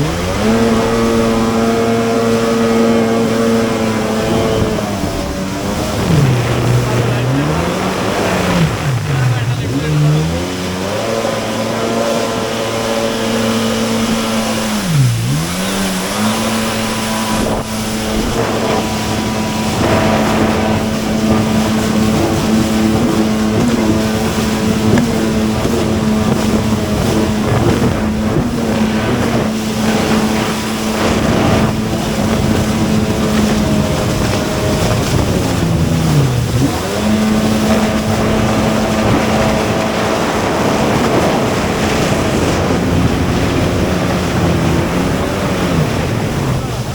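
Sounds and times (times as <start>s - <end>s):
water noise: 0.0s - 46.9s
watercraft engine revving: 0.0s - 46.9s
wind: 0.0s - 46.9s.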